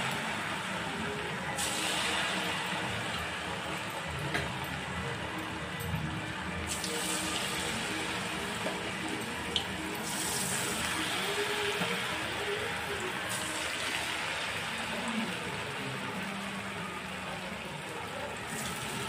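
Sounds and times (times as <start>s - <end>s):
food deep-frying in hot oil: 0.0s - 19.0s.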